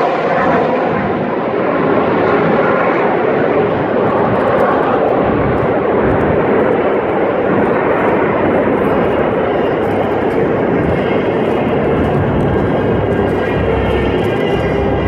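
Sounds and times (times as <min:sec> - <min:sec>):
propeller planes droning past: 0:00.0 - 0:15.0.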